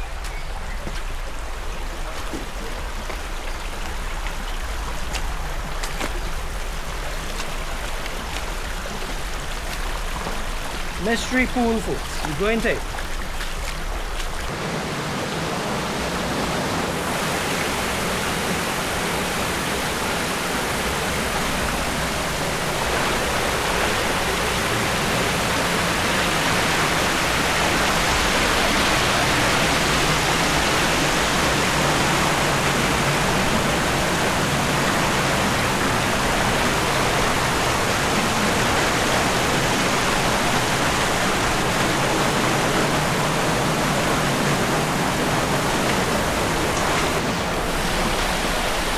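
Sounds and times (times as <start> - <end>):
waterfall rushing into pool: 1.0 - 48.9.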